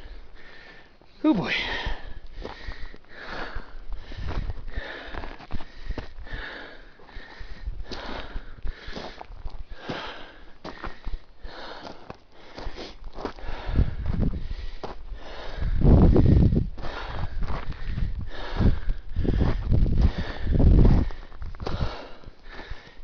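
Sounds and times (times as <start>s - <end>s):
footsteps on loose dirt: 0.0s - 23.0s
person breathing heavily: 0.0s - 23.0s.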